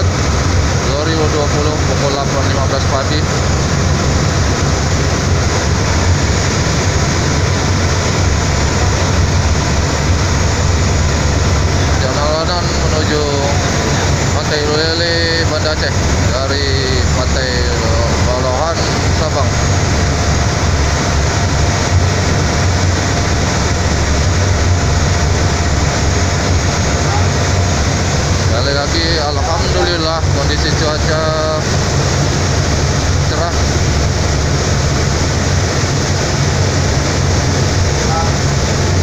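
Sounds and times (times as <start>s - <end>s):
ferry engine drone: 0.0s - 39.0s
water rushing: 0.0s - 39.0s.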